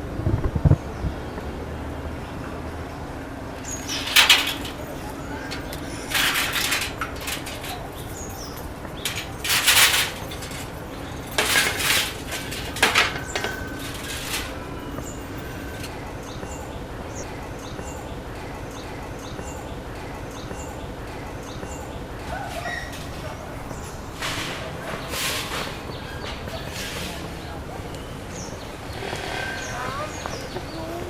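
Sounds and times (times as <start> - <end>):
flurries of bird noise: 0.7 - 31.0.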